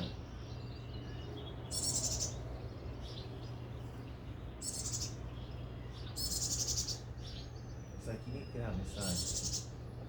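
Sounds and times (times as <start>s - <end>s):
small bird chirping: 0.0s - 9.9s.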